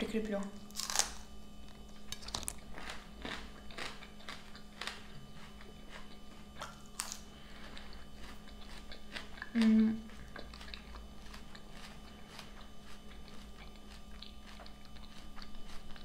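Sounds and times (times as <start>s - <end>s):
chewing crunchy salad: 0.6s - 16.0s.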